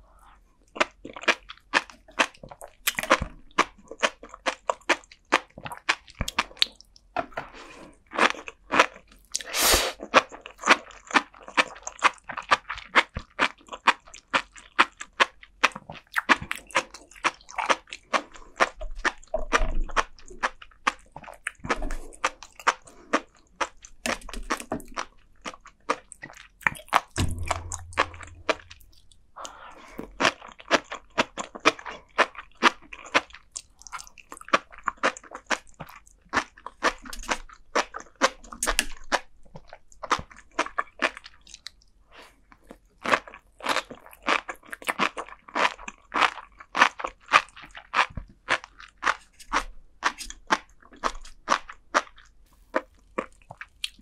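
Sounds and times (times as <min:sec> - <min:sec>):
close chewing pops and crunches: 0:00.8 - 0:54.0.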